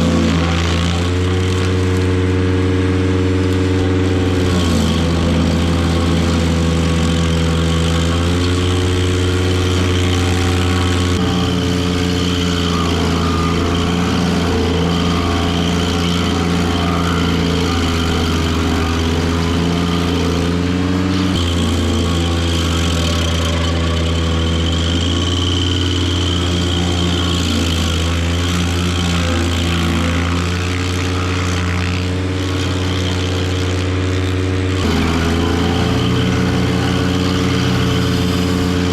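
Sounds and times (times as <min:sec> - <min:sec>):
stump grinder grinding: 0:00.0 - 0:38.9
tractor engine running at high speed: 0:00.0 - 0:38.9.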